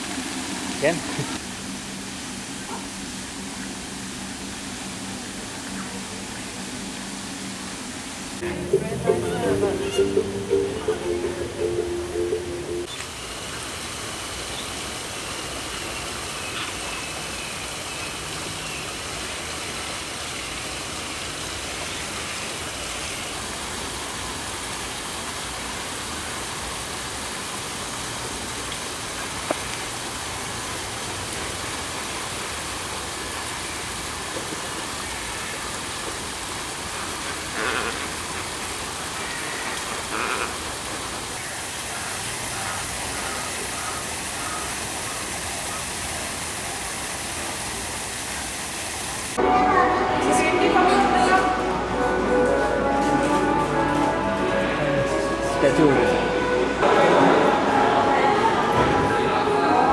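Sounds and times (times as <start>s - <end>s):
rushing outdoor background noise: 0.0s - 59.9s.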